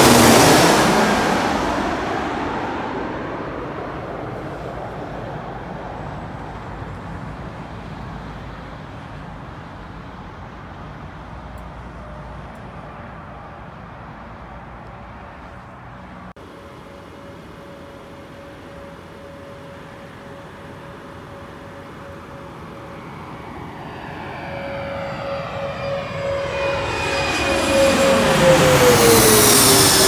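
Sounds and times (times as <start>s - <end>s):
jet engine rumble: 0.0s - 11.4s, 12.8s - 30.0s
faint jet whine: 0.0s - 30.0s.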